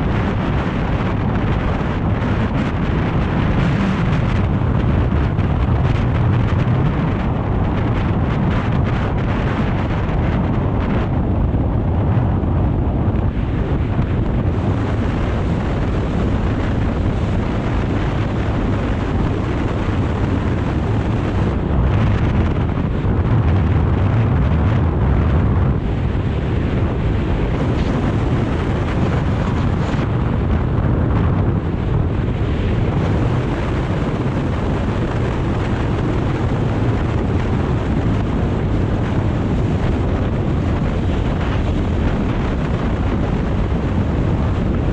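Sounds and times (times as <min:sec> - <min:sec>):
motorcycle rumble: 0:00.0 - 0:44.9
wind rushing over microphone: 0:00.0 - 0:44.9.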